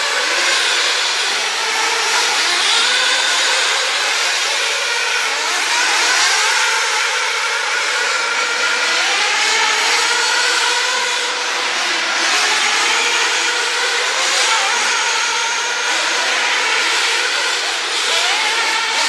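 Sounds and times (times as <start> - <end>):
radio-controlled car motors revving: 0.0 - 19.0.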